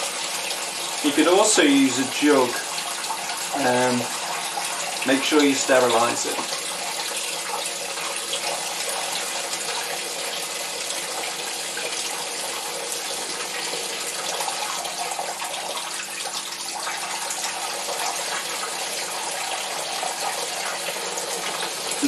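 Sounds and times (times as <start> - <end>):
liquid pouring into bucket: 0.0 - 22.0.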